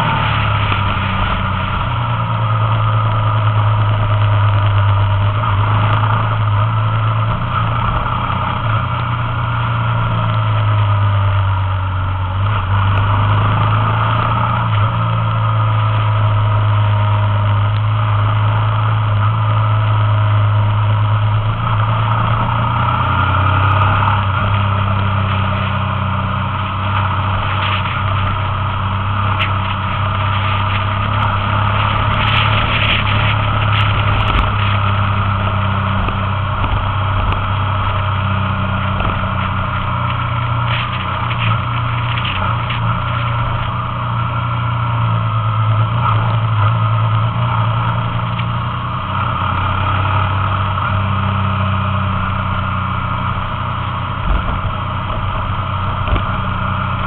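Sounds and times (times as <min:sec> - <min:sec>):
motorbike engine cruising: 0:00.0 - 0:57.0
wind and road noise: 0:00.0 - 0:57.0.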